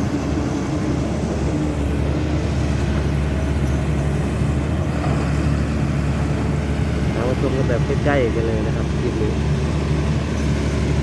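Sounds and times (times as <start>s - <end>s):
excavator diesel engine drone: 0.0s - 11.0s.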